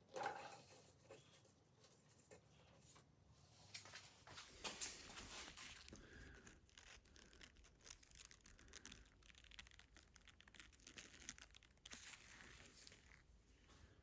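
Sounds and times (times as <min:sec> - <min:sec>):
faint handling clicks and rustles: 0:00.2 - 0:14.0.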